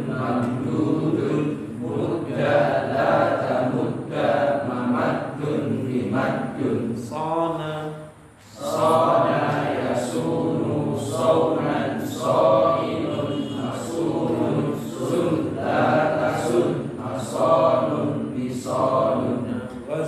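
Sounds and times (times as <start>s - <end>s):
group of voices chanting in unison: 0.0s - 7.1s, 8.5s - 19.6s.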